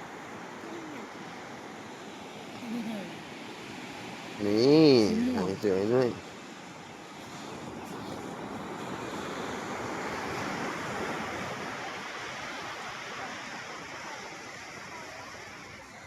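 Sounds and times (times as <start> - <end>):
surf washing onto a beach: 0.0 - 16.0.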